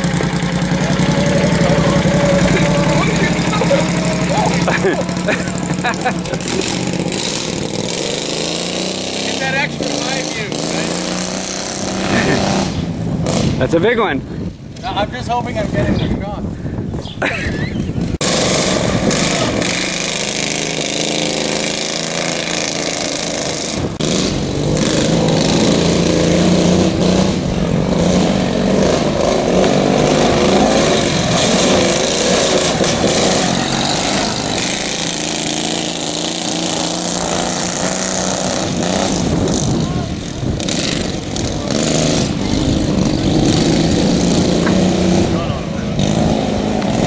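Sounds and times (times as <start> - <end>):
racing tractor engines revving: 0.0 - 15.6, 18.0 - 47.0.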